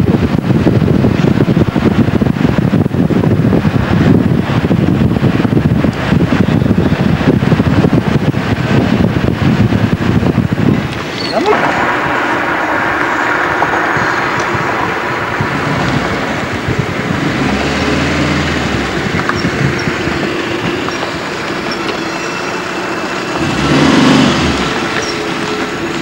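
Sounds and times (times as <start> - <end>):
car engine hum: 0.0 - 26.0
road noise: 0.0 - 26.0.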